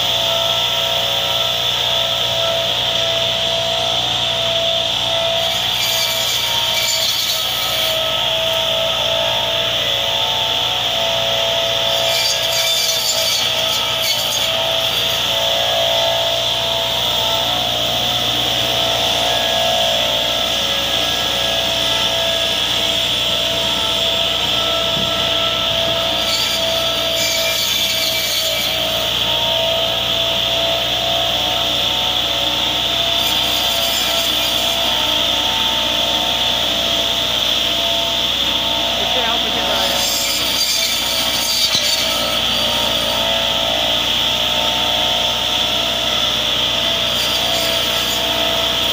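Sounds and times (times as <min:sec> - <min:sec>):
tractor with rotary cutter droning: 0:00.0 - 0:48.9.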